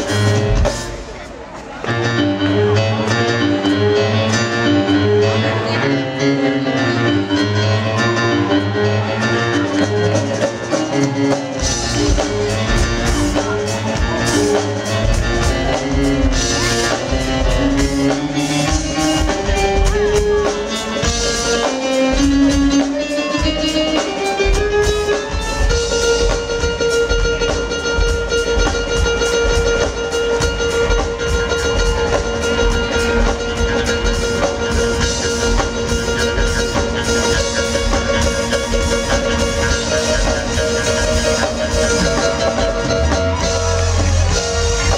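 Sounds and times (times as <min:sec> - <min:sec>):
lead melody line: 0:00.0 - 0:44.9
live smooth jazz band: 0:00.0 - 0:44.9.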